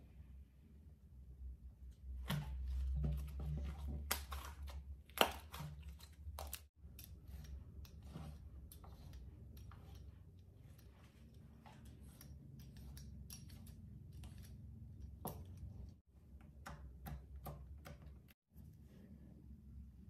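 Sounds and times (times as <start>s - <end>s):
metal spatula scraping slime: 1.9s - 18.4s.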